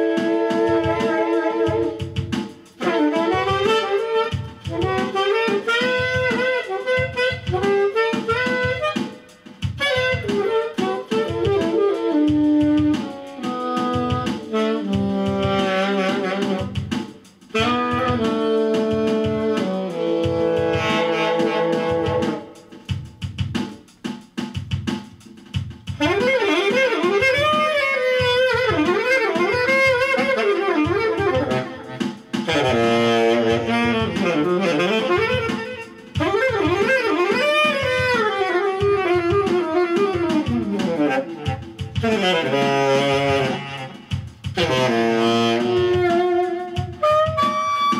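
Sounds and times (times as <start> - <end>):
saxophone playing jazz: 0.0 - 23.8, 24.6 - 47.9
steady drum beat: 0.0 - 47.9.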